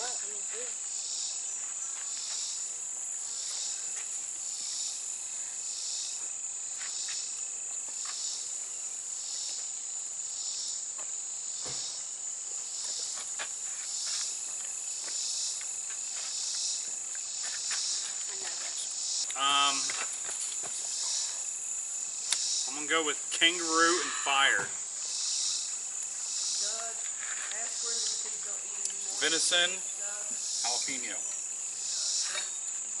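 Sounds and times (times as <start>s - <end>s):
insects high-pitched trill: 0.0s - 33.0s
insects rhythmic chirping: 0.0s - 33.0s.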